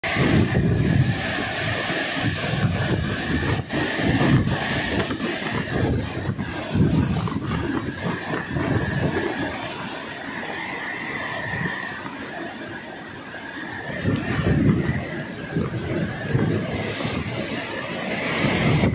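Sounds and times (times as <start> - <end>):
wind buffeting microphone: 0.0 - 18.9
wind gusting through trees: 0.0 - 18.9.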